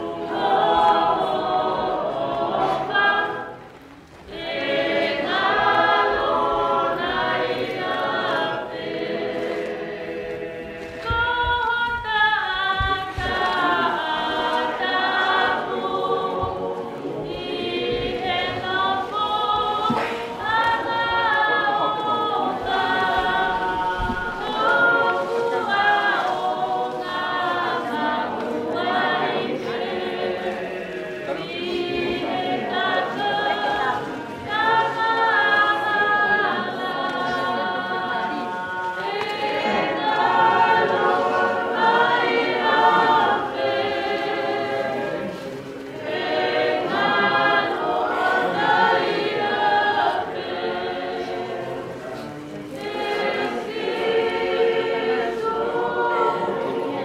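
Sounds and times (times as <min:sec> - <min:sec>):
choir singing unaccompanied: 0:00.0 - 0:57.0.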